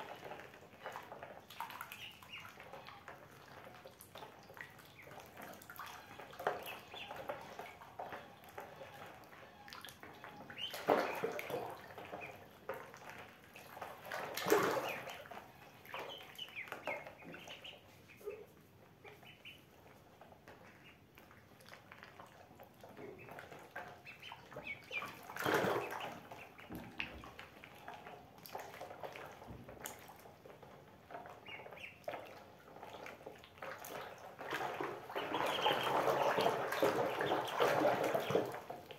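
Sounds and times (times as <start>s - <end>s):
ducklings peeping: 0.0s - 21.3s, 22.9s - 29.2s, 30.5s - 38.7s
ducklings splashing in water: 0.0s - 38.9s.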